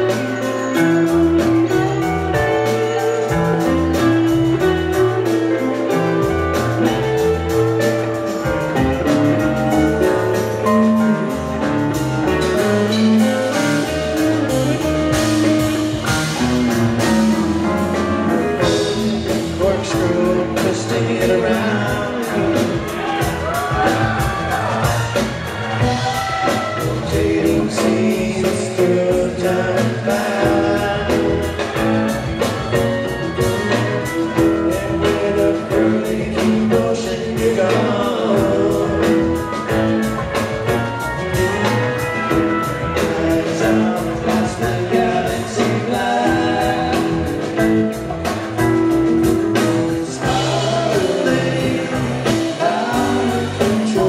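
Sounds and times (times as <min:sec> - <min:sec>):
bass: 0:00.0 - 0:54.0
guitar: 0:00.0 - 0:54.0
steady drum beat: 0:00.0 - 0:54.0.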